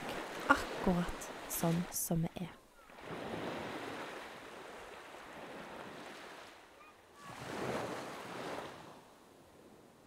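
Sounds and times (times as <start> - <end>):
small waves washing onto sand: 0.0 - 2.0, 2.9 - 10.0.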